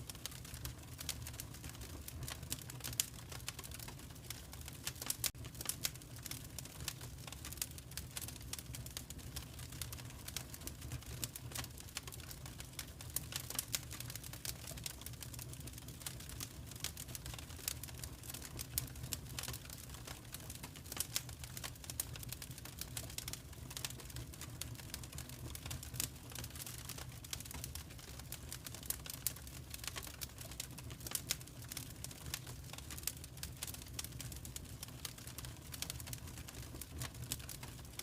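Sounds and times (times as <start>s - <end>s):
fire crackling: 0.0s - 38.0s.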